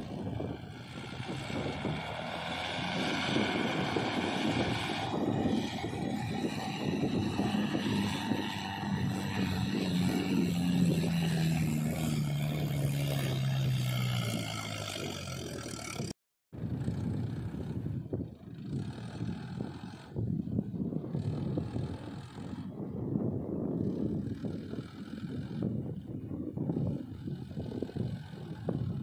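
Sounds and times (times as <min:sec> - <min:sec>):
tractor diesel engine under load: 0:00.0 - 0:23.1, 0:23.8 - 0:29.0.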